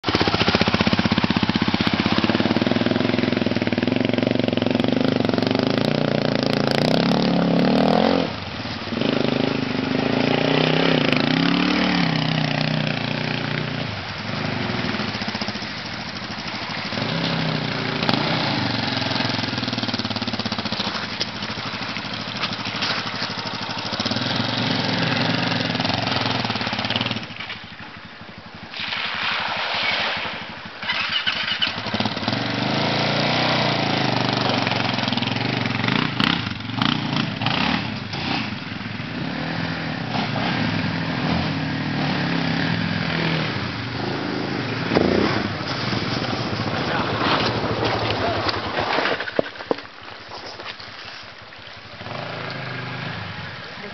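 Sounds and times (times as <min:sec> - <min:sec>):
atv engine revving: 0:00.0 - 0:27.5, 0:30.4 - 0:48.8, 0:51.9 - 0:53.9.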